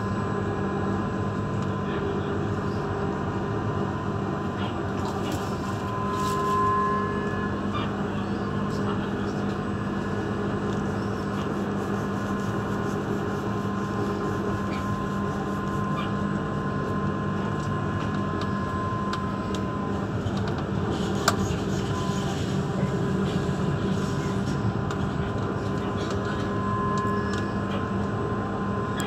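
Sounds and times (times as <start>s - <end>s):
traction equipment hum: 0.0s - 29.0s.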